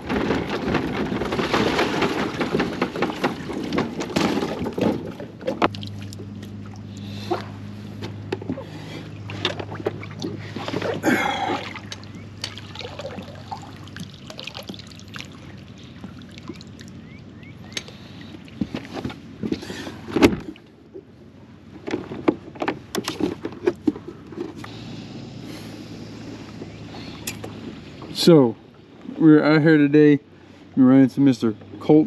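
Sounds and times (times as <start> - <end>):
low steady hum: 0.0 - 32.0
water splashing around boat: 0.0 - 32.0.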